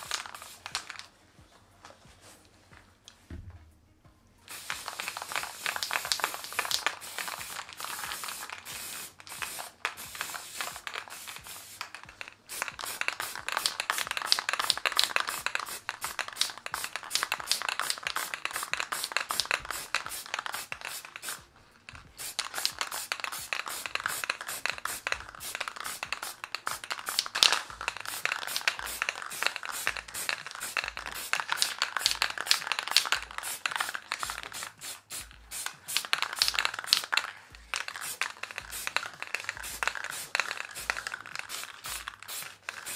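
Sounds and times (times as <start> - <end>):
aerosol spray can hissing: 0.0 - 1.1, 4.5 - 42.9.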